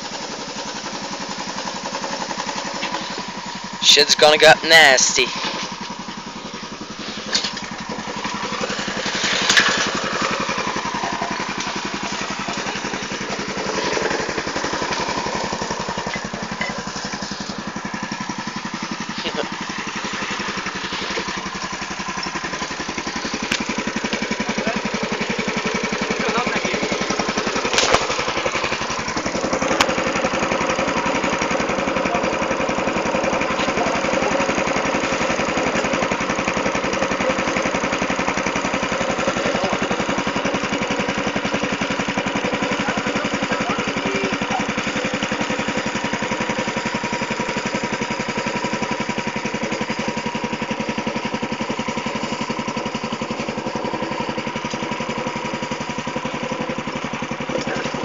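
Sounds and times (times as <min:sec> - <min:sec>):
small engine running: 0:00.0 - 0:58.0.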